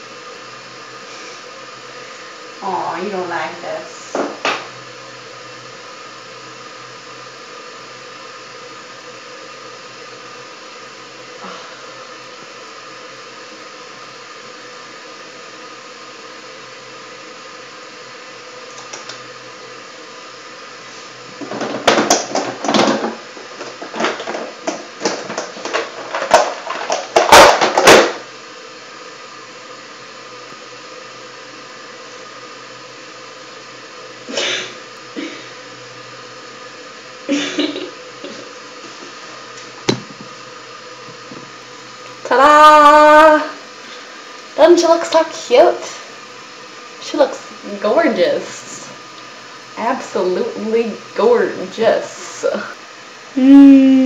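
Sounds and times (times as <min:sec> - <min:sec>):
small appliance motor humming: 0:00.0 - 0:54.0.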